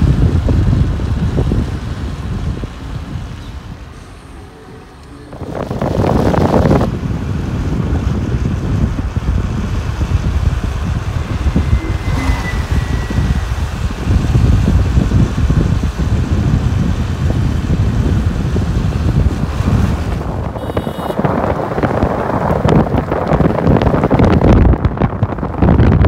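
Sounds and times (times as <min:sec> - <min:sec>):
car driving rumble: 0:00.0 - 0:26.0
wind buffeting microphone: 0:00.0 - 0:26.0.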